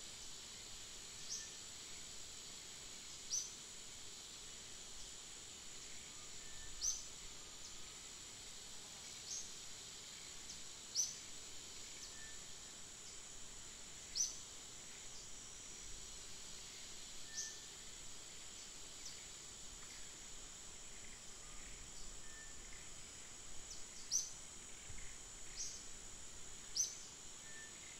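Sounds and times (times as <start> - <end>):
high-pitched insect drone: 0.1 - 27.9.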